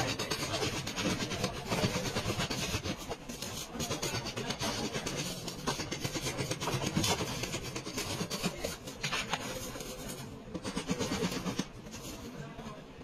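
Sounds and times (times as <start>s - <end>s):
workshop and engine noise: 0.0s - 13.0s.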